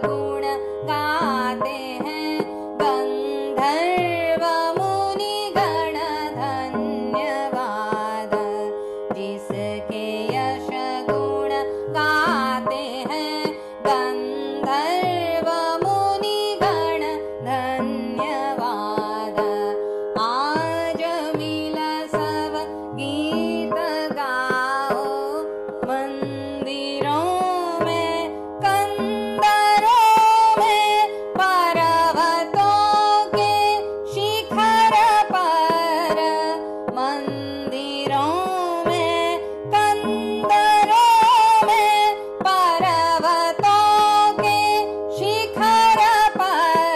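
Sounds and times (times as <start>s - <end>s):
plucked string melody: 0.0s - 46.9s
tabla strokes: 0.0s - 46.9s.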